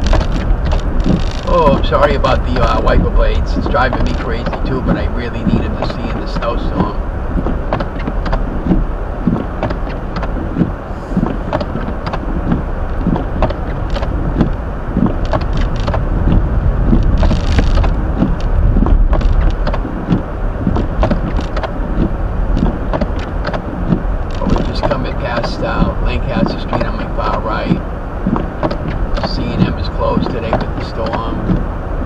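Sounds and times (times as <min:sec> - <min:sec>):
windshield wipers knocking: 0:00.0 - 0:31.7
engine and tyre rumble: 0:00.0 - 0:32.0.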